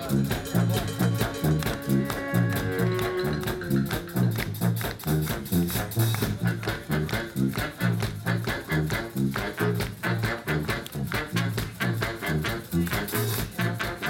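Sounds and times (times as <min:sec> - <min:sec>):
brass band playing: 0:00.0 - 0:14.0
drum kit: 0:00.0 - 0:14.0
saxophones: 0:00.0 - 0:14.0
sousaphone bass line: 0:00.0 - 0:14.0
trombone: 0:00.0 - 0:14.0.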